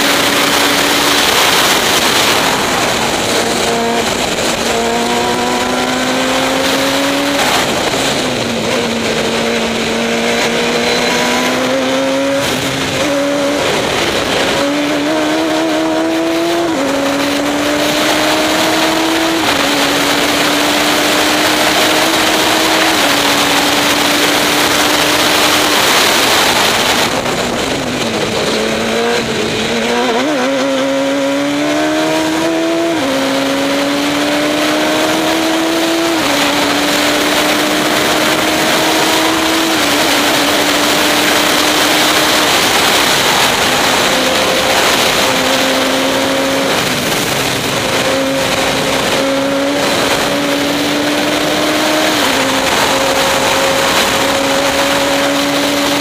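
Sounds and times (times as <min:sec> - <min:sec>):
heavy wind rush: 0:00.0 - 0:56.0
race car engine revving: 0:00.0 - 0:56.0.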